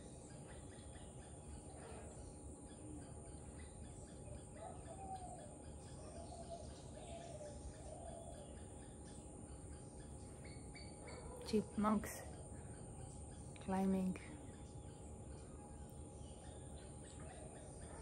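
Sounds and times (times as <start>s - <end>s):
distant wavering bird calls: 0.0s - 18.0s
faint regular chirping: 0.0s - 18.0s.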